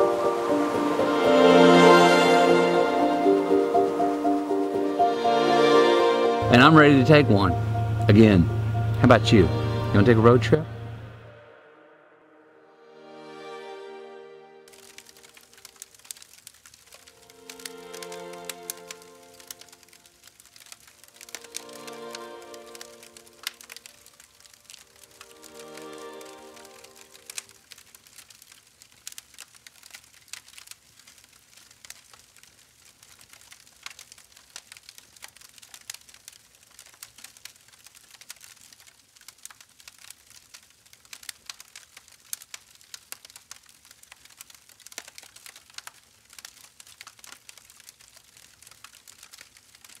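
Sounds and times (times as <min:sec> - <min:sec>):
campfire crackling: 0:00.0 - 0:11.7, 0:14.6 - 0:50.0.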